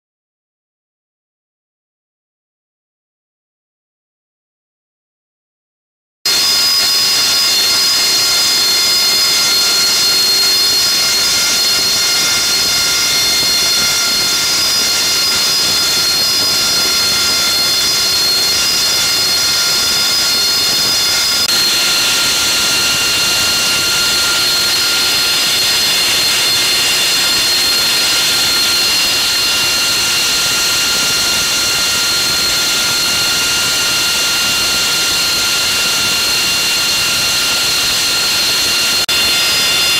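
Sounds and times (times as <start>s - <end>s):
jet engine rushing hiss: 6.3s - 39.9s
jet engines whining: 6.3s - 39.9s.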